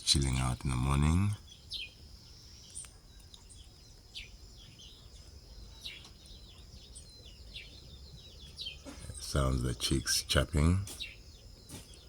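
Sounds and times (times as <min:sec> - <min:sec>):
chicks chirping: 0:00.2 - 0:12.0.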